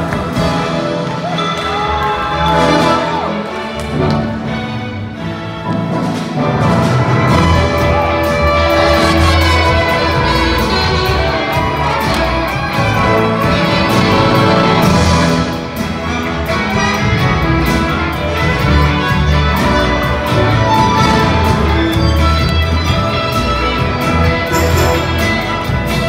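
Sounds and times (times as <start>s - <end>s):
brass: 0.0s - 26.0s
drums: 0.0s - 26.0s
piano: 0.0s - 26.0s.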